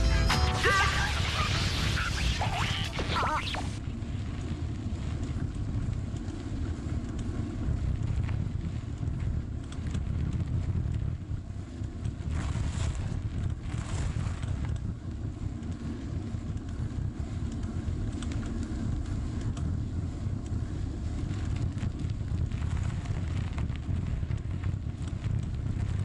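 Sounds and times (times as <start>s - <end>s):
wind buffeting microphone: 3.0s - 26.0s
bicycle tyres rolling on gravel: 3.8s - 26.0s.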